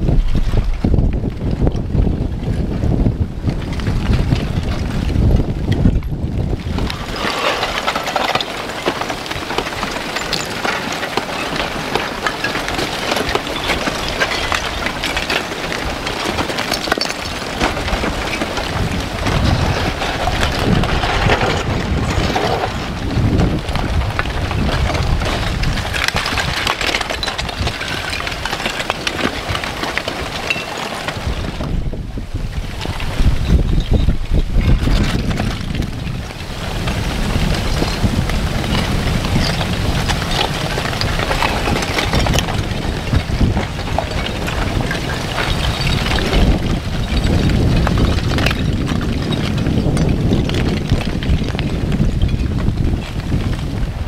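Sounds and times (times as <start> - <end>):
crust blocks clinking and tumbling: 0.0 - 54.0
lava flow crackling: 0.0 - 54.0
wind rumbling on microphone: 0.0 - 54.0.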